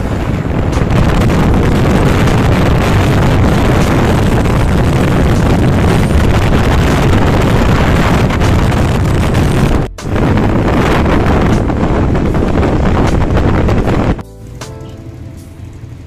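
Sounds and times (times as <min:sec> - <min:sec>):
wind buffeting microphone: 0:00.0 - 0:14.2
motorcycle riding noise: 0:00.0 - 0:16.0.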